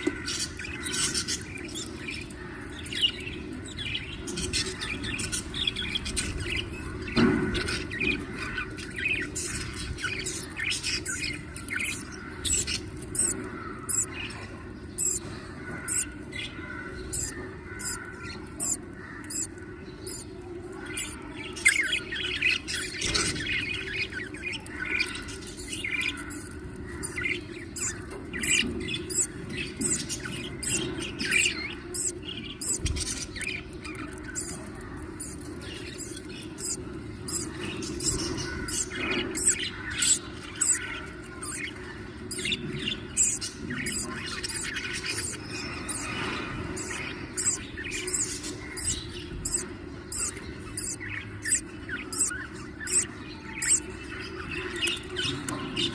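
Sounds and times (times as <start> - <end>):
budgerigars chirping and squawking: 0.0 - 55.9
steady low hum: 0.2 - 55.2.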